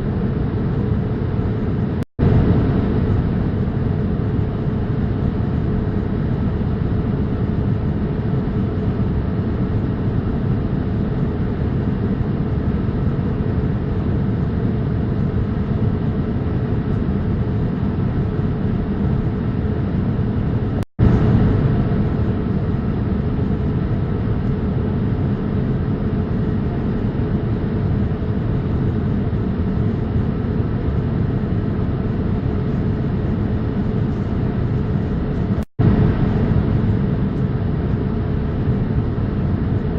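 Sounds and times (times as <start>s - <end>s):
airliner cabin drone: 0.0s - 39.9s
faint steady hum: 0.0s - 39.9s.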